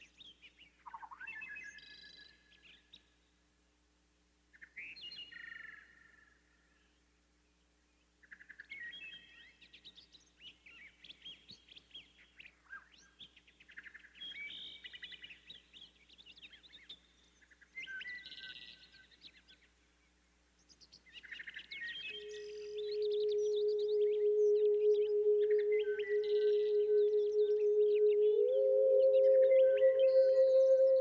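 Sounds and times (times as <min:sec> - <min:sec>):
songbird chirping and trilling: 0:00.0 - 0:03.2, 0:04.6 - 0:06.2, 0:08.2 - 0:31.0.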